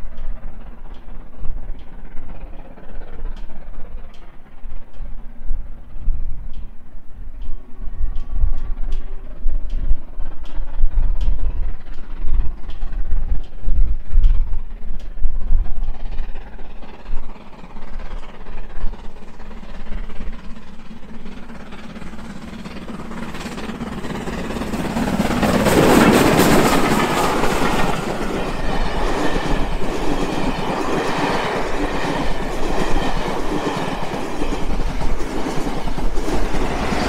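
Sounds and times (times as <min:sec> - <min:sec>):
coach wheels clattering: 0:00.0 - 0:37.0
steam locomotive passing: 0:00.0 - 0:37.0.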